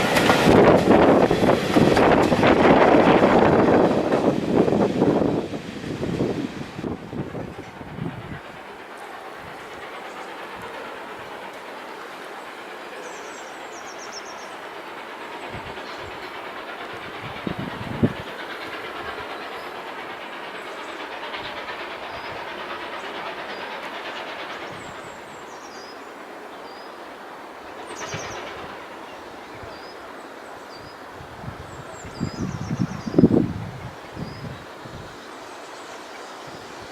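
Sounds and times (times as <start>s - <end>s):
train wheels clattering over rails: 0.0s - 36.9s.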